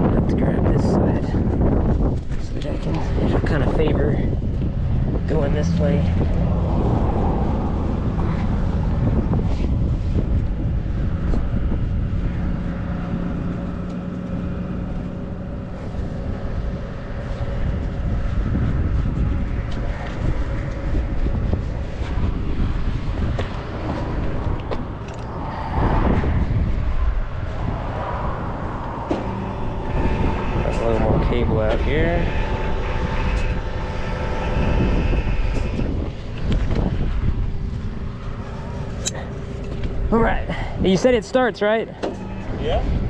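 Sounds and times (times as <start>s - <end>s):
truck engine running: 3.2s - 43.0s.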